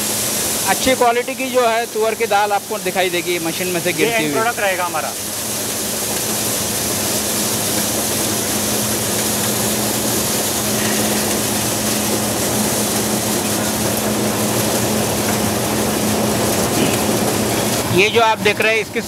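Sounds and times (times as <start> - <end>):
motor hum: 0.0 - 18.8.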